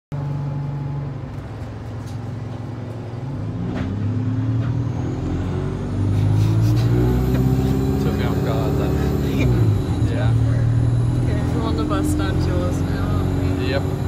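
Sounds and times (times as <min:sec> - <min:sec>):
car engine accelerating: 0:00.2 - 0:14.0.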